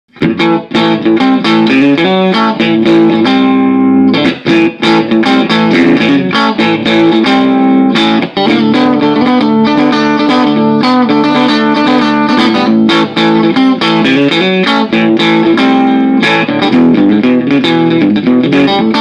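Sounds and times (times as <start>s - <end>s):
clean electric guitar: 0.1s - 19.0s.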